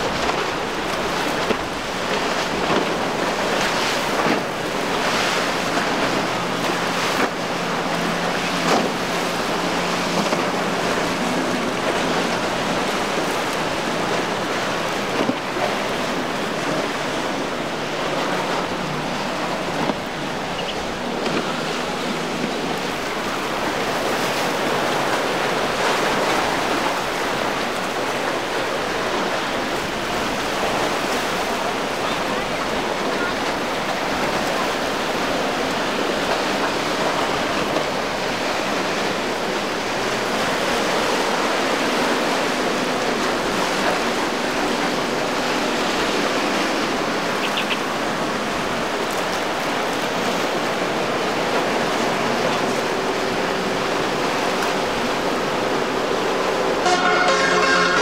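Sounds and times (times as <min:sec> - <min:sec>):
choppy water and surf: 0:00.0 - 0:58.0
faint outboard motor hum: 0:00.0 - 0:58.0.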